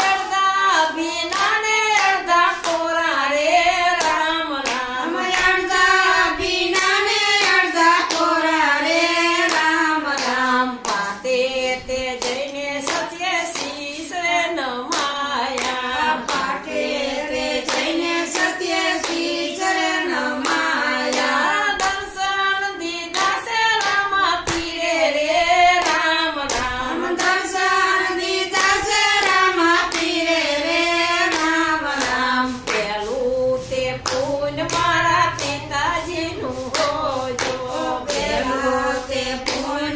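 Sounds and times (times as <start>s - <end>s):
hand clapping: 0.0s - 39.9s
women singing in unison: 0.0s - 39.9s.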